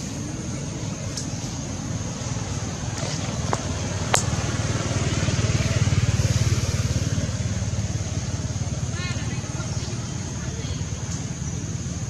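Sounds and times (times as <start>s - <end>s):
engine running with low throb: 0.0s - 12.0s.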